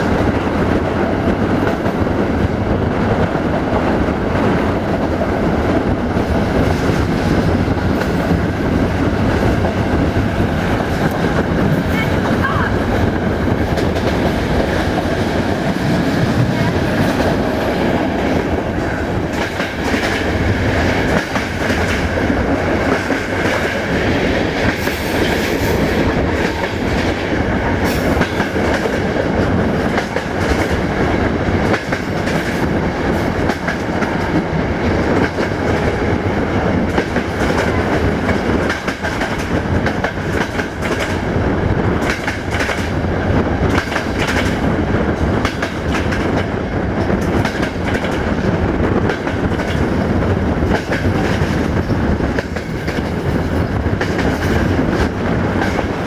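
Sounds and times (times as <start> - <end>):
clickety-clack of rail joints: 0.0 - 56.0
train wheels rumbling on rail: 0.0 - 56.0.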